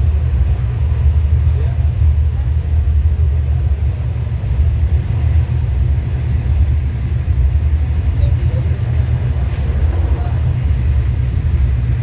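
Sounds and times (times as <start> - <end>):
passenger train rumble: 0.0 - 12.0.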